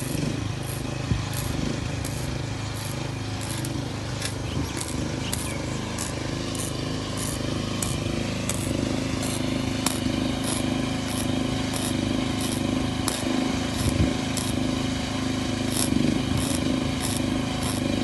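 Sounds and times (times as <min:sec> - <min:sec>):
engine-like machine hum: 0:00.0 - 0:18.0.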